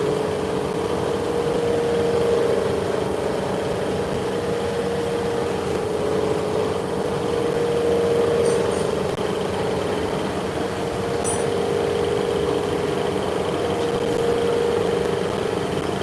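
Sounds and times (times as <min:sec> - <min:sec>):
machine humming with held tone: 0:00.0 - 0:16.0.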